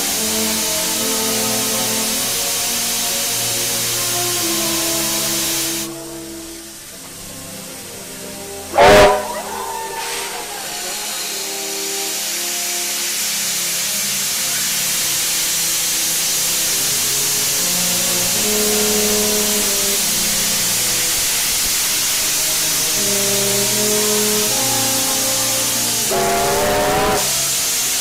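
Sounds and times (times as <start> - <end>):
steam hissing from locomotive: 0.0 - 28.0.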